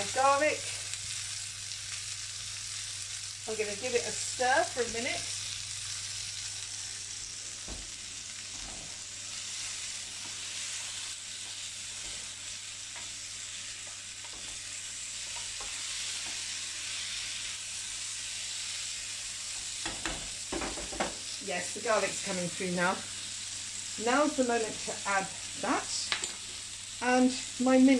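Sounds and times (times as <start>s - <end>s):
vegetables sizzling in a frying pan: 0.0s - 27.9s.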